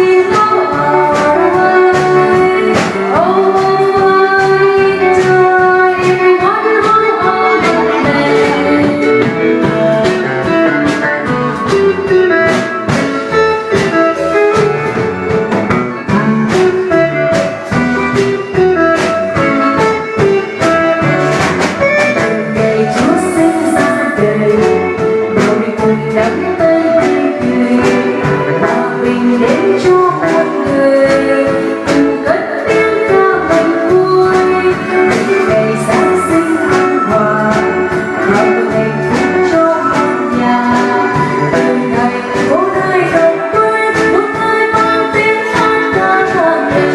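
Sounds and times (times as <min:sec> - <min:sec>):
person singing: 0:00.0 - 0:21.2, 0:21.8 - 0:46.9
drums beating: 0:00.0 - 0:46.9
guitar: 0:00.0 - 0:46.9.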